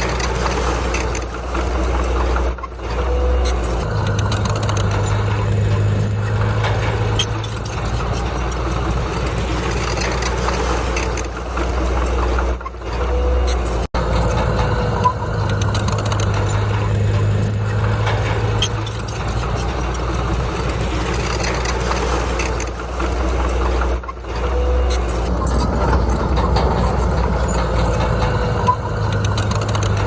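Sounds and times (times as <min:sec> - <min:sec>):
heavy diesel engine rumbling: 0:00.0 - 0:30.0.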